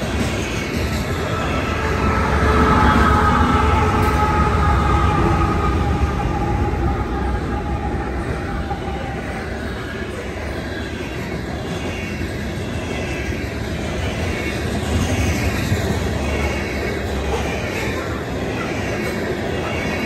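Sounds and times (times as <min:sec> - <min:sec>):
freight train rolling past: 0:00.0 - 0:20.0
steel wheels rumbling on rails: 0:00.0 - 0:20.0.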